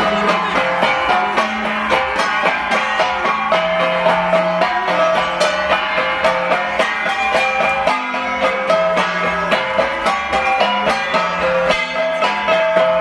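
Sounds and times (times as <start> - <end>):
bronze gongs struck with sticks: 0.0 - 13.0.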